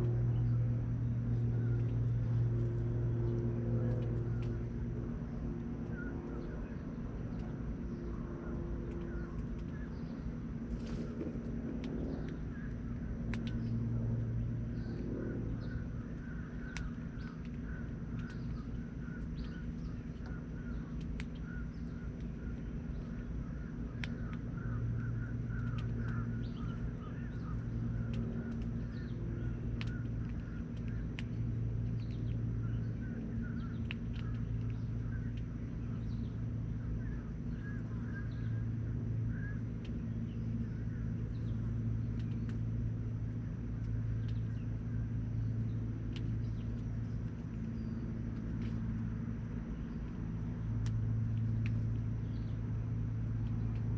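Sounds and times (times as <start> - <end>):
birds chirping: 0.0 - 53.9
low hum: 0.0 - 53.9.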